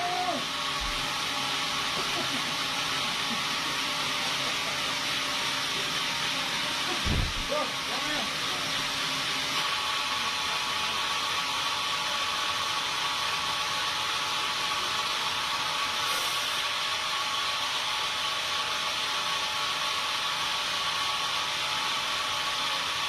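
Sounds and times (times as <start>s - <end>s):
sawmill machinery hiss and whine: 0.0s - 23.0s.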